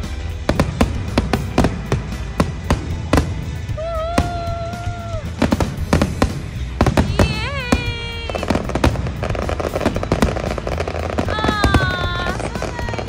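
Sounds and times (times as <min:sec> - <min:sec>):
fireworks bursting: 0:00.0 - 0:13.0
fireworks crackling: 0:00.0 - 0:13.0.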